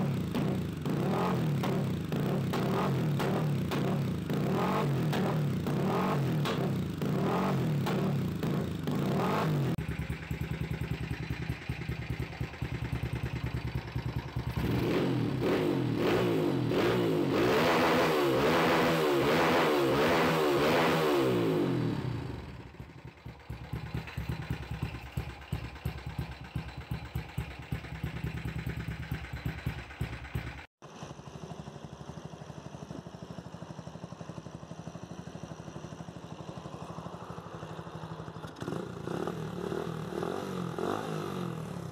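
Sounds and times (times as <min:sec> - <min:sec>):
motorcycle engine idling: 0:00.0 - 0:17.4, 0:21.4 - 0:41.9
motorcycle engines revving: 0:00.0 - 0:32.4, 0:35.8 - 0:41.9.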